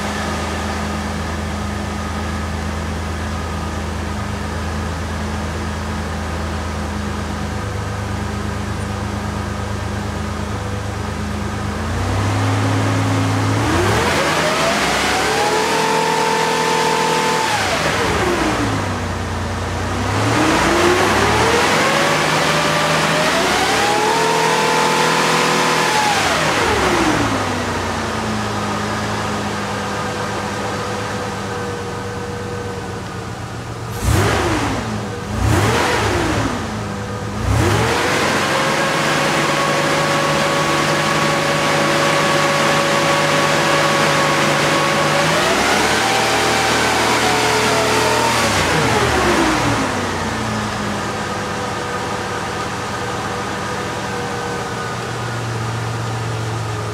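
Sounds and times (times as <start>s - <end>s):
car engine revving: 9.8s - 56.9s.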